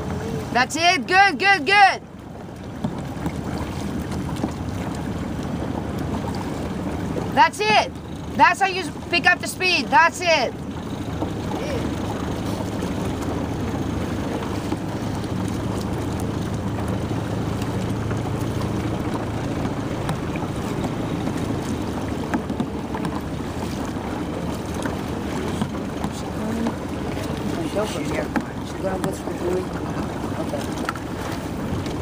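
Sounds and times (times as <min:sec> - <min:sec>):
motorboat engine humming: 0:00.0 - 0:32.0
water around hull: 0:00.0 - 0:32.0.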